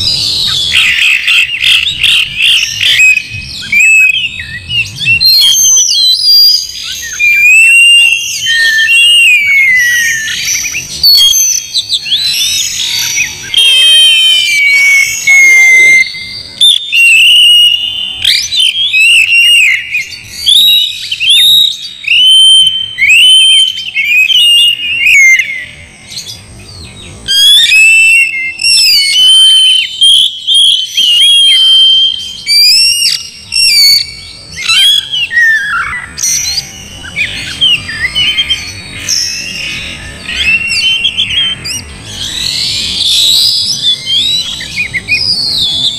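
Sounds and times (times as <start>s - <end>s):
bird singing whistled phrases: 0.0s - 45.9s.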